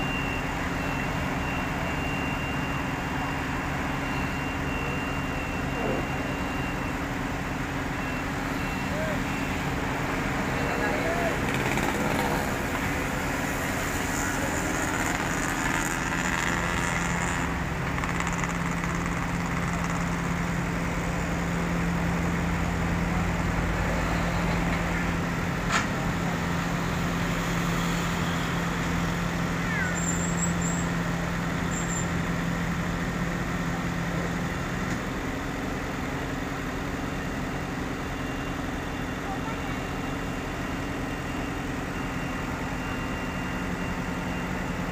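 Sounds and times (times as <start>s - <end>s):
truck engine under hydraulic load: 0.0s - 44.9s.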